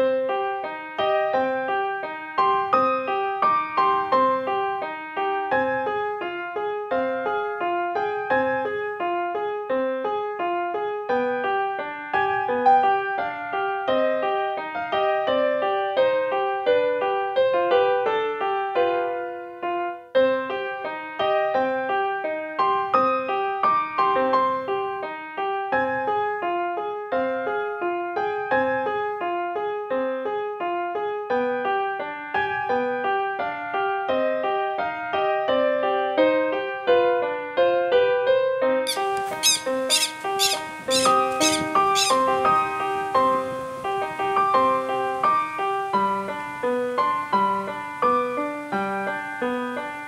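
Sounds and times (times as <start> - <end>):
flowing piano music: 0.0 - 50.0.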